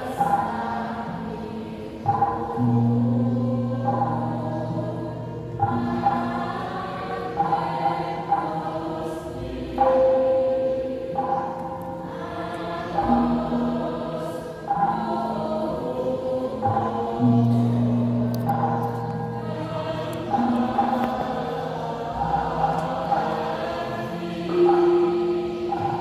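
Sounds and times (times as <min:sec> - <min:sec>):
chorus singing held notes: 0:00.0 - 0:26.0.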